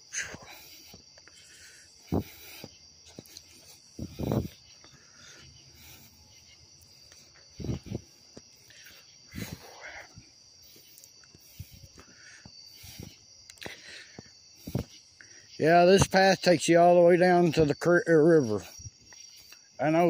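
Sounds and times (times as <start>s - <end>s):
night insects chorus: 0.0s - 20.0s.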